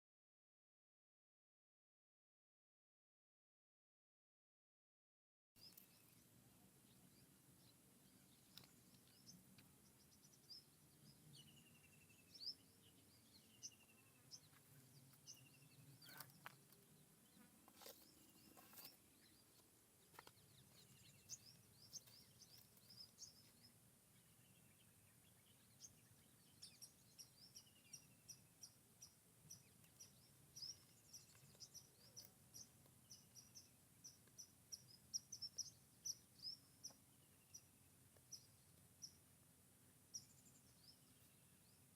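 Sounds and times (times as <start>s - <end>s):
birds chirping: 5.6s - 41.9s.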